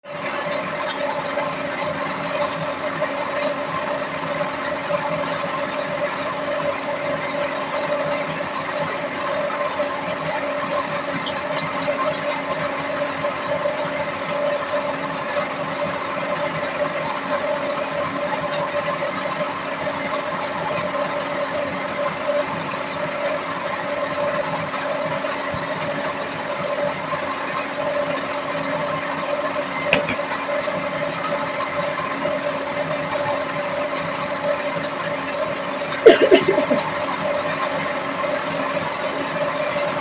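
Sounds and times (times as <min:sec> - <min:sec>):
steady machine hum: 0:00.0 - 0:40.0.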